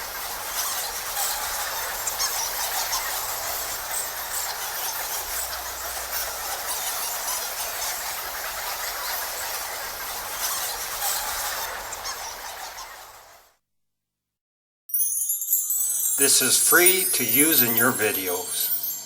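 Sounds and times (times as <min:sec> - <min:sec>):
bats squeaking: 0:00.0 - 0:13.5, 0:16.0 - 0:19.0.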